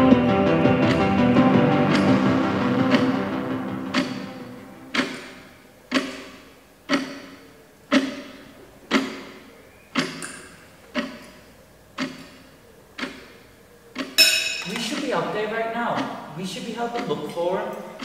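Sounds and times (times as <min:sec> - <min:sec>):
clock ticking: 0:00.0 - 0:18.0.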